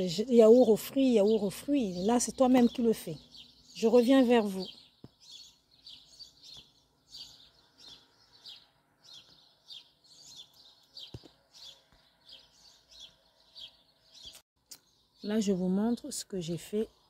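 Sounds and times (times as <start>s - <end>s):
faint high bird chirps: 0.0s - 17.0s.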